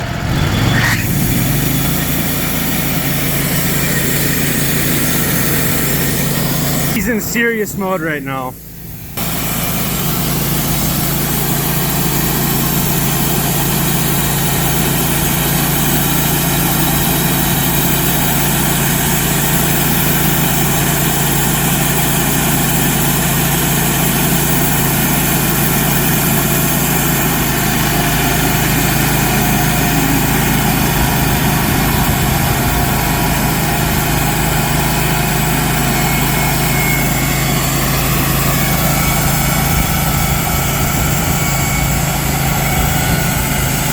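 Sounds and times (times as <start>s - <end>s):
engine humming: 0.0s - 43.9s.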